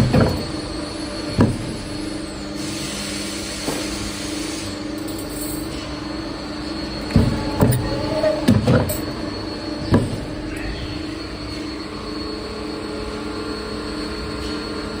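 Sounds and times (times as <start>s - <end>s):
machinery humming and whining: 0.0s - 15.0s.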